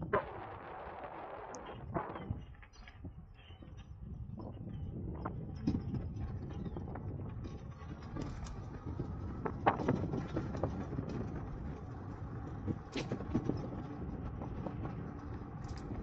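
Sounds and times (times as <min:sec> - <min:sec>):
bike tyres rumbling on asphalt: 0:00.0 - 0:16.0
bike knocking and rattling: 0:01.6 - 0:16.0.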